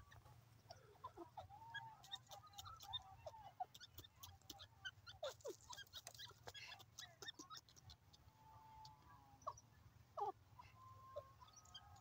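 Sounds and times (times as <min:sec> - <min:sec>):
soft squeaky bird chirps: 0:00.0 - 0:08.3, 0:09.4 - 0:12.0.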